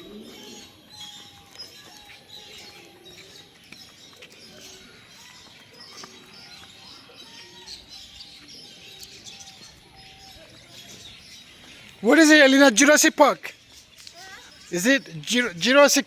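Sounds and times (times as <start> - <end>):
many birds chirping: 0.0 - 16.0.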